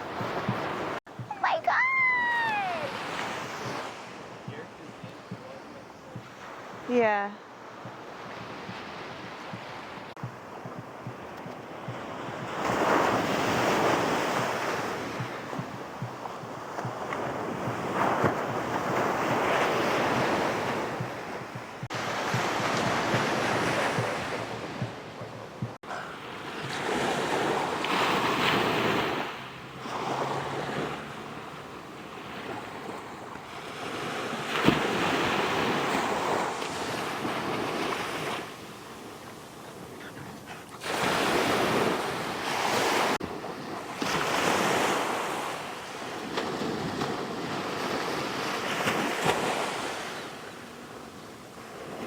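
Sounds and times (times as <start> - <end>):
waves breaking on shore: 0.0 - 52.0
wind on microphone: 0.0 - 52.0.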